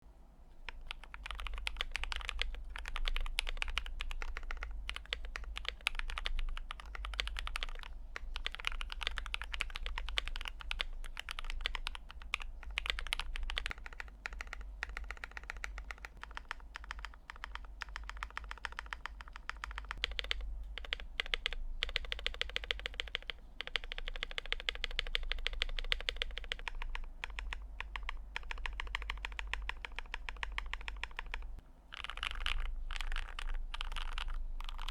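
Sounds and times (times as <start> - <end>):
steady low hum: 0.0 - 34.9
mechanical keyboard typing: 0.6 - 34.9.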